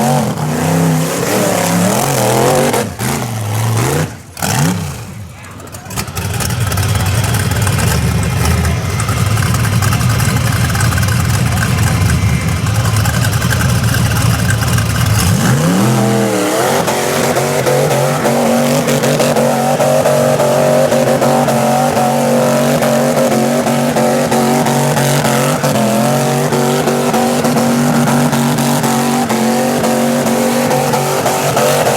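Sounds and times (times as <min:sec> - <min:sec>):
engine rumbling and revving: 0:00.0 - 0:31.9.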